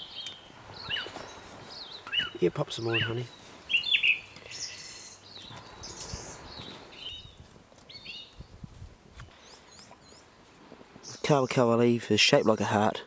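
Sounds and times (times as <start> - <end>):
small birds chirping: 0.0 - 12.7
campfire crackling: 0.0 - 12.8.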